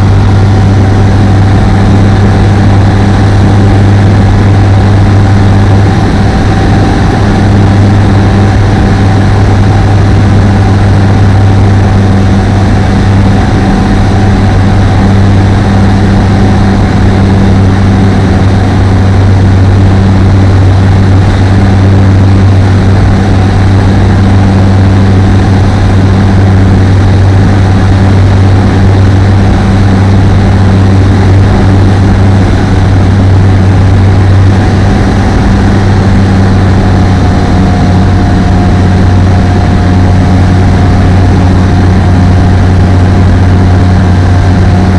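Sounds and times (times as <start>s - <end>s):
aircraft engine and propeller drone: 0.0s - 44.9s.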